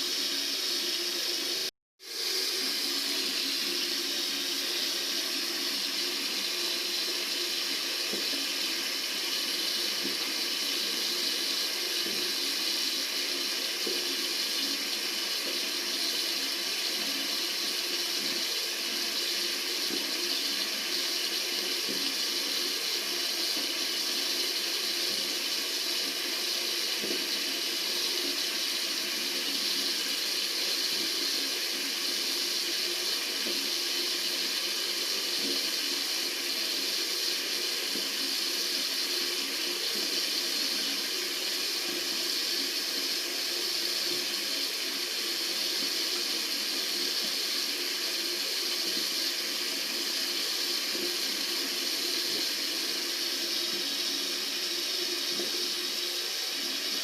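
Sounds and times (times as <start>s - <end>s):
tap water running into sink: 2.2s - 57.0s.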